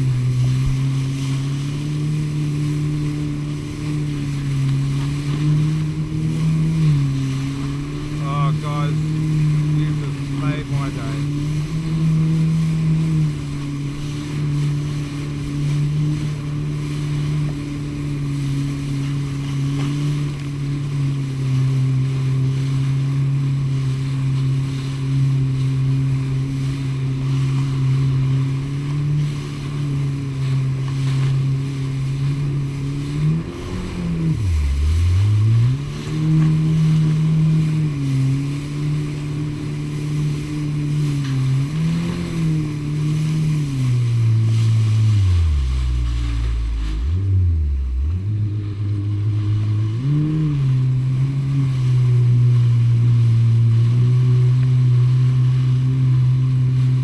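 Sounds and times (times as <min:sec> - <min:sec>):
jet ski engine running: 0:00.0 - 0:57.0.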